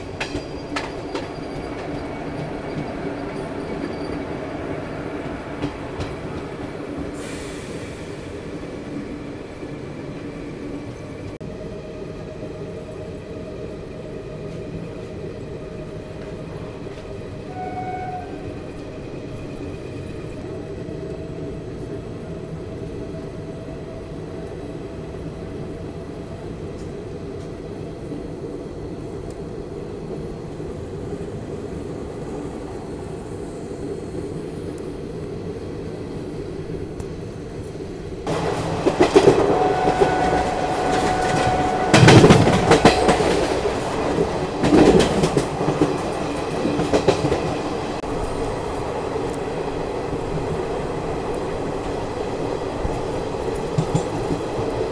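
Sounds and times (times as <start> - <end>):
train coach rumbling: 0.0 - 54.9.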